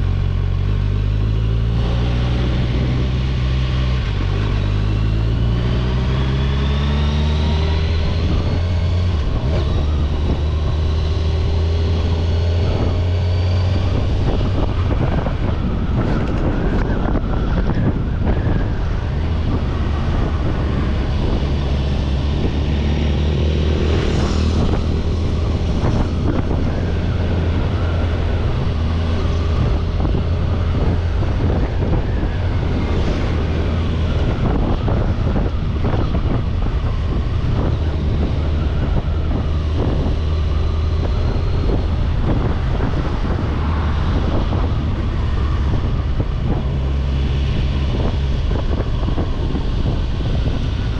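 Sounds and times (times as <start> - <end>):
motorcycle engine accelerating: 0.0 - 50.9
road and wind noise: 0.0 - 50.9.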